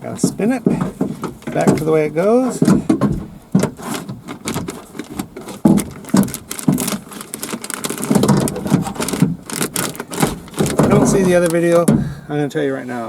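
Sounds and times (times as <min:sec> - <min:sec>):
window regulator clattering and knocking: 0:00.0 - 0:12.2.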